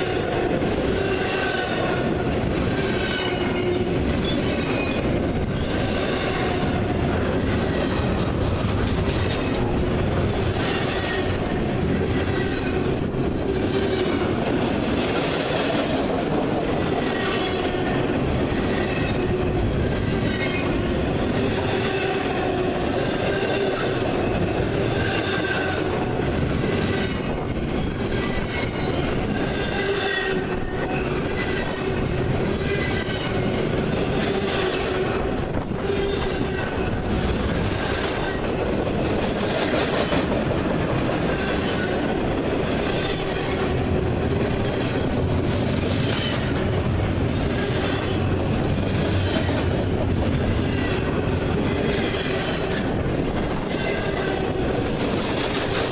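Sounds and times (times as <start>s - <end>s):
train wheel squeals: 0.0s - 8.4s, 10.5s - 13.0s, 16.9s - 26.0s, 26.6s - 40.4s, 41.1s - 42.2s, 42.8s - 43.8s, 44.4s - 55.9s
train cars clattering over rails: 0.0s - 55.9s.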